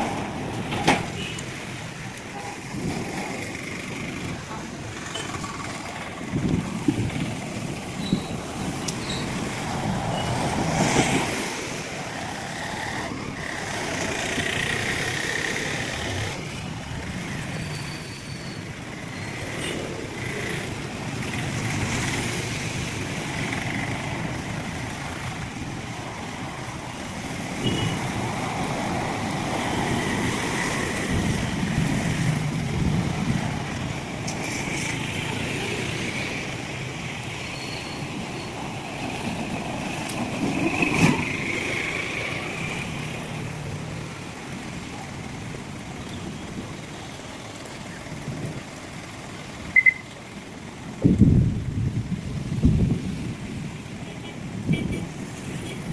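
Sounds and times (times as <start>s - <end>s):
vehicles passing on wet road: 0.0s - 55.9s.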